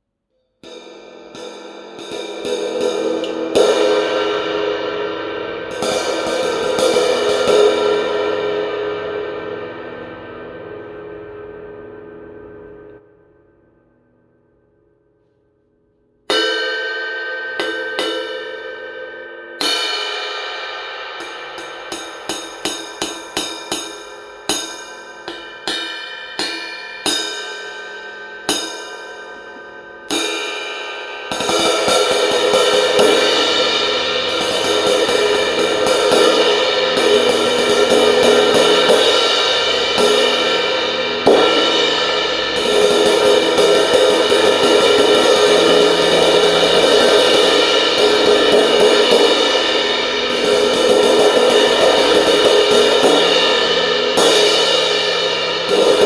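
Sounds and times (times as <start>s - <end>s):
crash cymbal struck with drumsticks: 0.6s - 9.9s, 16.3s - 56.0s.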